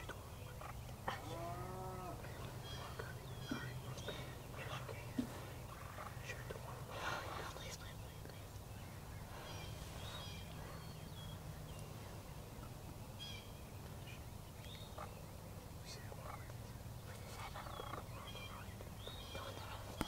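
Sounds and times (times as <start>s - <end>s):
wild turkey calls: 0.0s - 15.3s, 15.9s - 20.0s
songbirds chirping and whistling: 0.0s - 20.0s.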